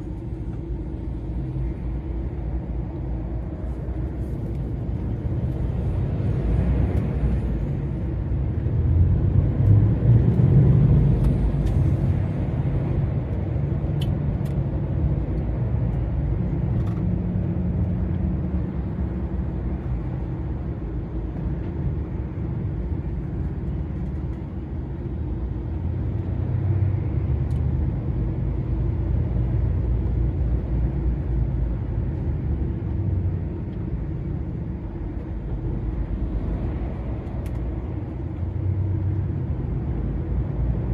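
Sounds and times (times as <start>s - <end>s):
lorry engine and tyre rumble: 0.0s - 40.9s.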